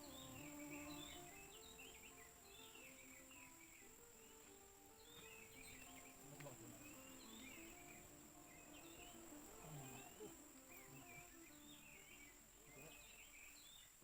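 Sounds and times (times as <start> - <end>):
high insect drone: 0.0 - 14.0
small birds chirping: 0.0 - 14.0.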